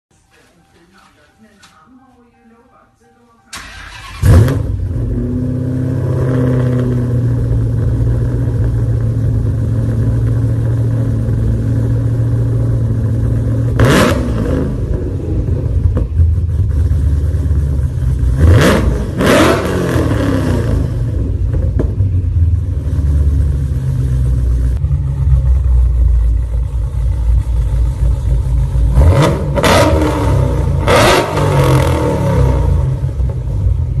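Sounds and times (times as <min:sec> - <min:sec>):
car engine idling and revving: 0:03.6 - 0:34.0.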